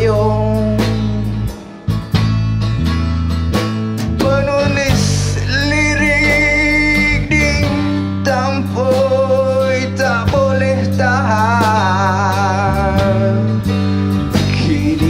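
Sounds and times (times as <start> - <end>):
person singing with vibrato: 0.0 - 1.7, 4.1 - 15.0
guitar accompaniment: 0.0 - 15.0.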